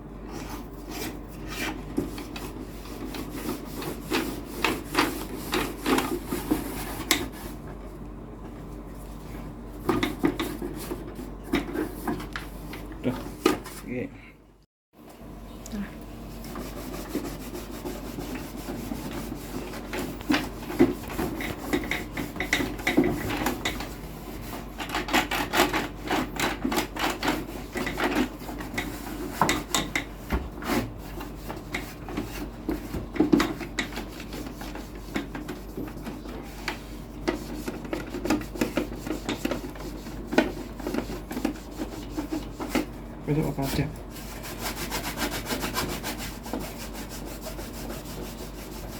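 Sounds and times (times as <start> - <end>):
rubbing and scrubbing strokes: 0.3 - 7.6, 9.8 - 13.9, 16.3 - 29.9, 30.6 - 48.9.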